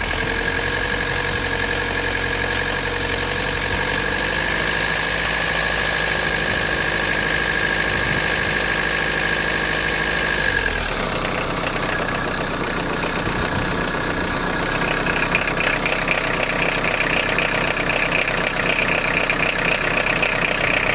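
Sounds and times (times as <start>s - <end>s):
diesel engine idling with knock: 0.0s - 20.9s.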